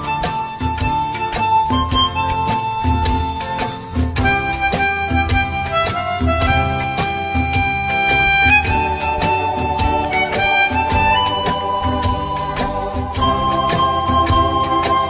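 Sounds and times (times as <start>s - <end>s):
backing track with bass and beat: 0.0s - 15.0s
harmonica melody: 0.0s - 15.0s.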